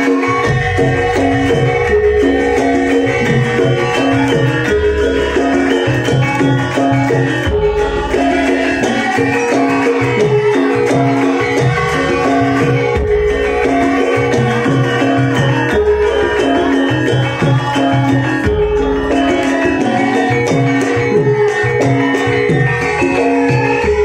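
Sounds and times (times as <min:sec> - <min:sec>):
gamelan music: 0:00.0 - 0:24.0
hand drums: 0:00.0 - 0:24.0.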